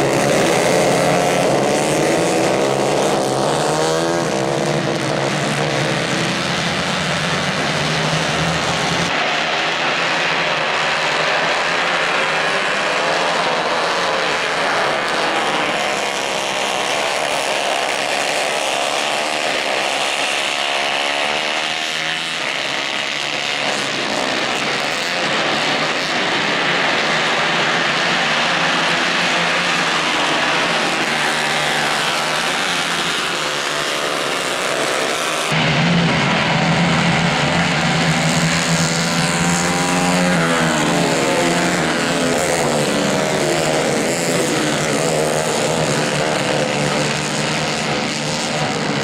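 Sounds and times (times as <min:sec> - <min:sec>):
racing kart engines: 0:00.0 - 0:49.0.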